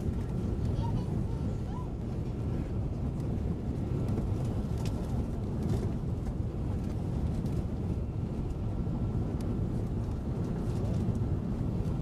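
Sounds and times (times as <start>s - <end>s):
aircraft cabin engine drone: 0.0s - 12.0s.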